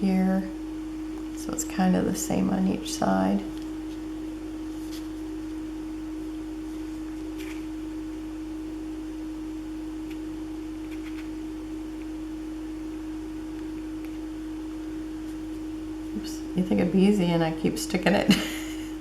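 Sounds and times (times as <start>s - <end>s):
steady single-pitch hum: 0.0s - 19.0s.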